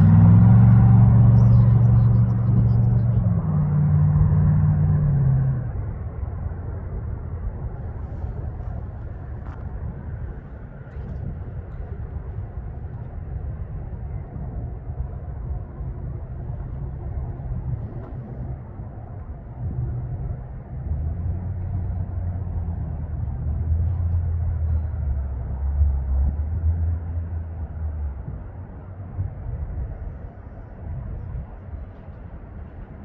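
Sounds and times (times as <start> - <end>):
diesel freight train rumble: 0.0 - 33.0
low engine drone: 0.0 - 33.0.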